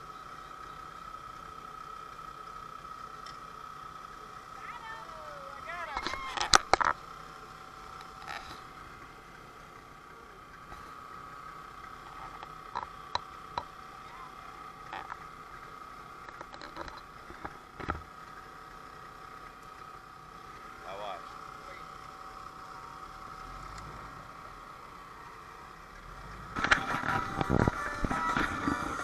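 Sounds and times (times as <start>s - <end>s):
boat motor humming: 0.0s - 29.0s.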